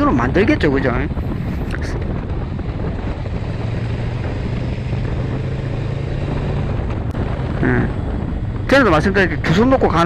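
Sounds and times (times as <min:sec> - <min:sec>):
motorcycle engine humming: 0:00.0 - 0:10.0
wind rushing over microphone: 0:00.0 - 0:10.0.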